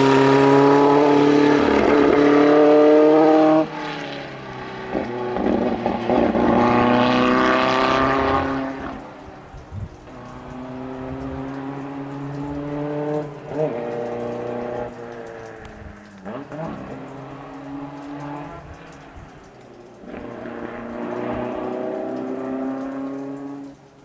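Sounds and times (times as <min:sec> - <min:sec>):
racing car engine passing: 0:00.0 - 0:09.4, 0:10.1 - 0:23.8.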